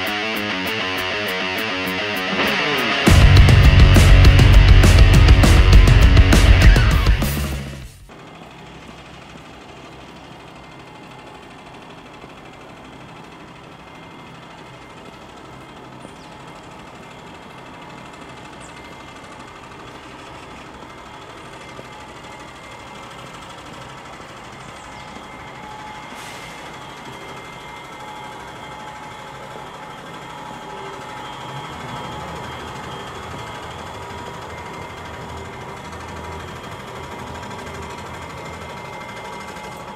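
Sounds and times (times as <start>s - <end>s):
bus engine hum: 0.0s - 39.9s.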